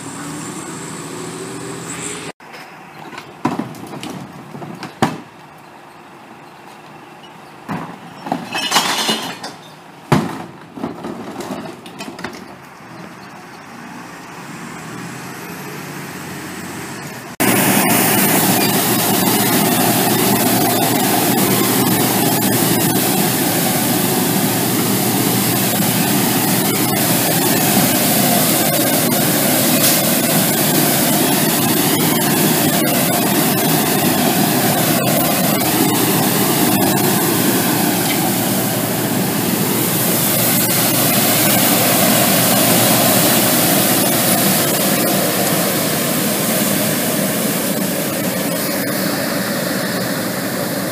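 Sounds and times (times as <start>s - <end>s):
garbage truck engine running: 0.0s - 50.9s.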